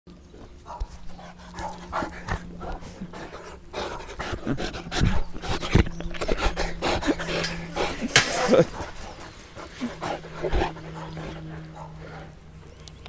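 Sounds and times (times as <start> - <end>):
dog panting: 0.6 - 12.5.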